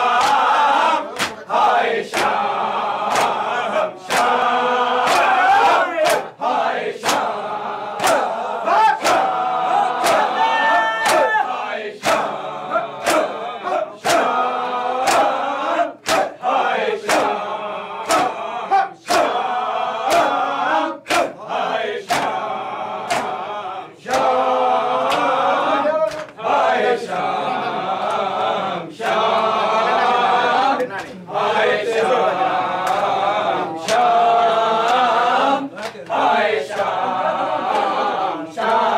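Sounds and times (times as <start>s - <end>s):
men chanting together: 0.0s - 38.9s.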